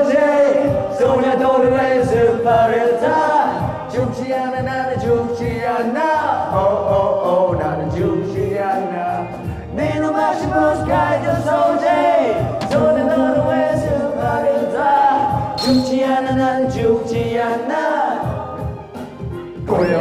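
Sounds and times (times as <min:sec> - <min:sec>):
karaoke backing track: 0:00.0 - 0:20.0
men singing into microphones: 0:00.0 - 0:20.0.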